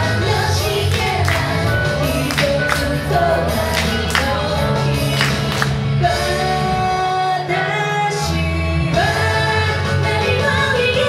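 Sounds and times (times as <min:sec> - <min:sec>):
bass: 0:00.0 - 0:11.0
drums: 0:00.0 - 0:11.0
woman singing into a microphone: 0:00.0 - 0:11.0.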